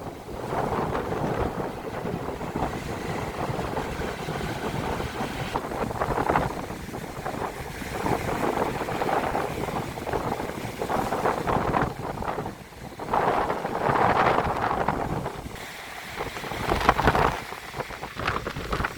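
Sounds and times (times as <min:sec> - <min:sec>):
rough sea surf: 0:00.0 - 0:18.9
storm wind: 0:00.0 - 0:18.9
wind buffeting microphone: 0:00.0 - 0:18.9.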